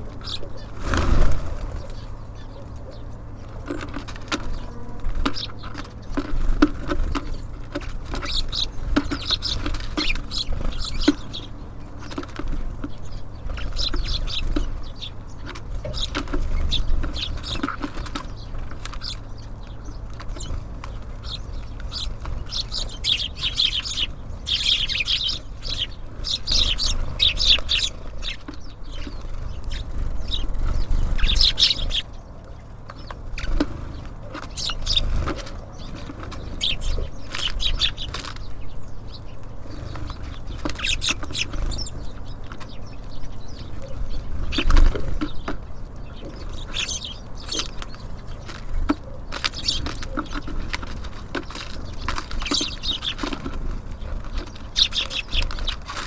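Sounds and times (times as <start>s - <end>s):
songbirds chirping: 0.0s - 56.0s
wings fluttering: 0.0s - 56.0s.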